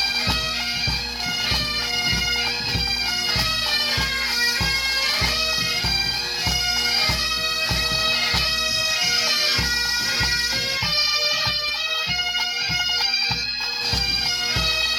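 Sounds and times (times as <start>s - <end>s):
bagpipes playing: 0.0s - 14.9s.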